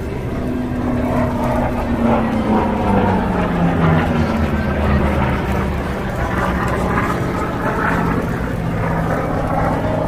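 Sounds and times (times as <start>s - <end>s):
aircraft engine droning overhead: 0.0s - 10.0s.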